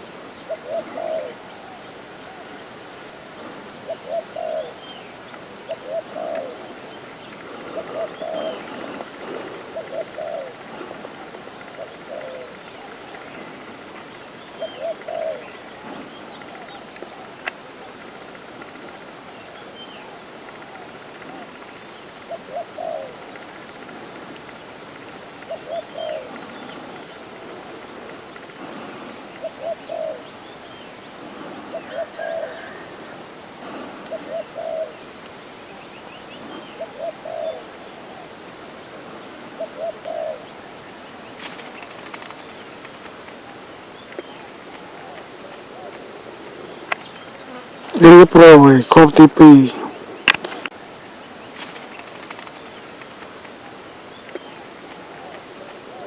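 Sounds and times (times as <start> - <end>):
doves cooing: 0.3 - 2.6, 3.4 - 18.0, 20.6 - 24.4, 25.3 - 27.8, 28.5 - 35.3, 36.0 - 48.4, 51.5 - 56.0.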